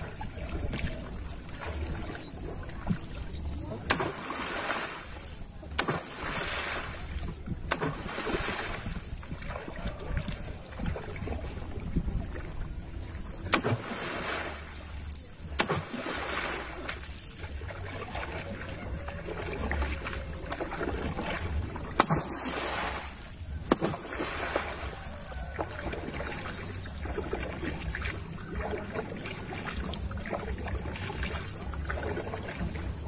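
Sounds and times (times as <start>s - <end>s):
paddle splashing water: 0.0s - 33.0s.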